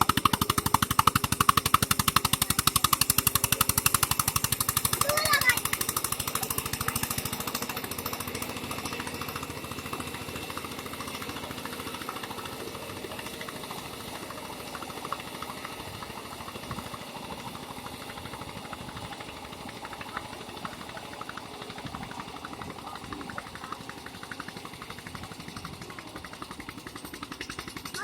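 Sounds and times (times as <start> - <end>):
tractor diesel engine knocking: 0.0 - 28.0.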